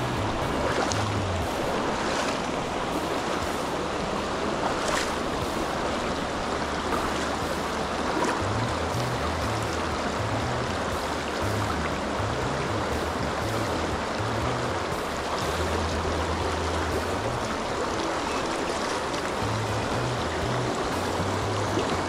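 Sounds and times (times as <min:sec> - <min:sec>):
background music with bass line: 0:00.0 - 0:22.0
stream rippling over stones: 0:00.0 - 0:22.0.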